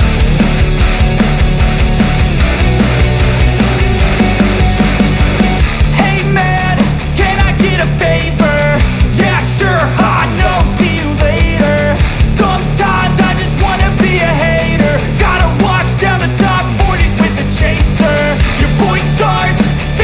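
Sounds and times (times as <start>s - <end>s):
loud rock music: 0.0s - 20.0s
steady drum beat: 0.0s - 20.0s.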